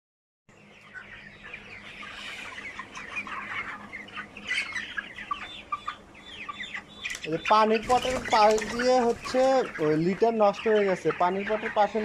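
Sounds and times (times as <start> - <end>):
chicks peeping and chirping: 0.5 - 12.0.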